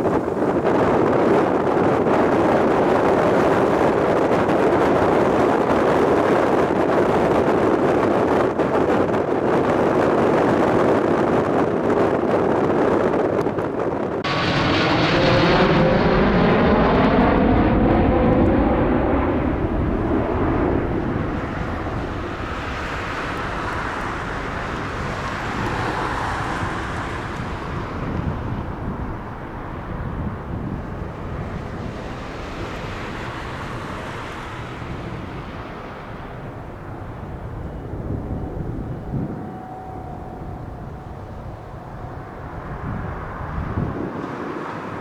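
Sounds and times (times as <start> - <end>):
turboprop airliner passing: 0.0 - 45.0.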